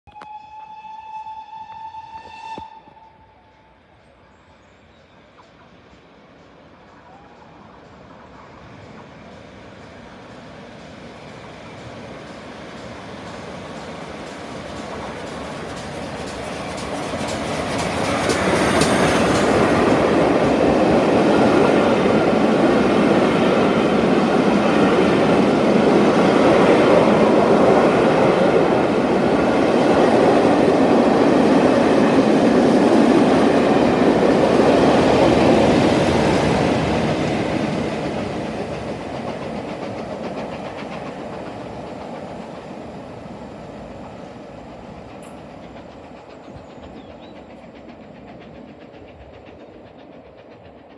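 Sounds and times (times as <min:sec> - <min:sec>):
steam train passing: 0:00.1 - 0:50.9.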